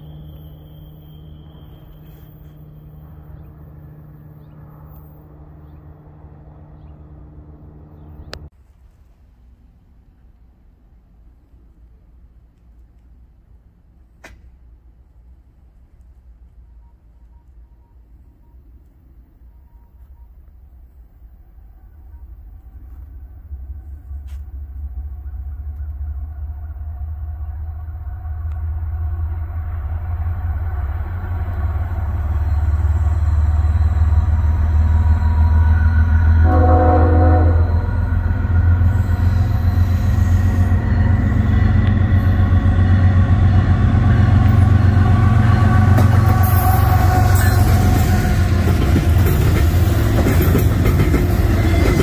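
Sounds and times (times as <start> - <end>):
locomotive engine humming: 0.0 - 52.0.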